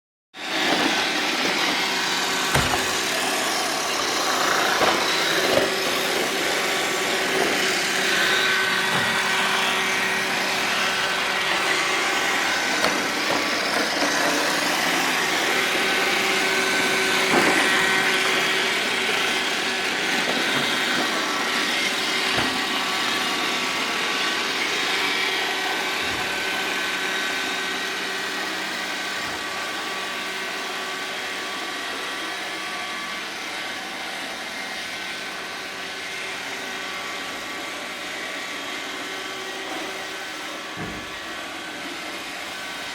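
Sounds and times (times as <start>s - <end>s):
robot vacuum whirring: 0.4s - 42.9s.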